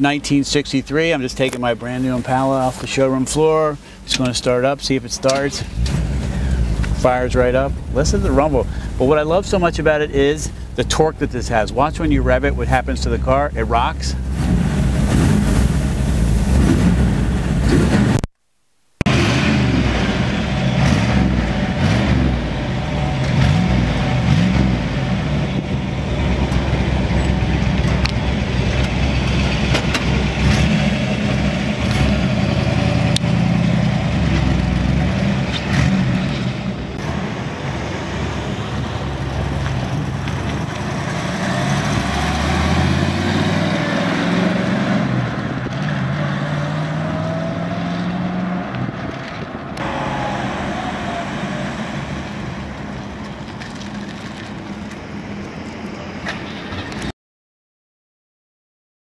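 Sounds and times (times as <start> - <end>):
vee eight engine accelerating: 5.3 - 18.3, 19.1 - 56.2.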